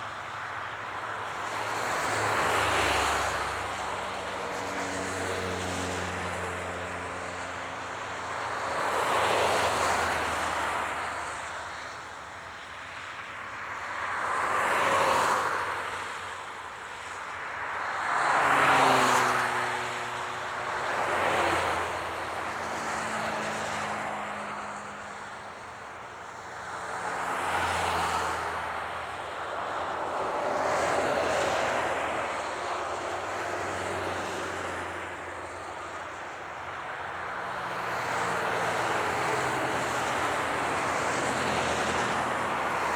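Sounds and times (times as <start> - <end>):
highway vehicles passing: 0.0 - 42.9.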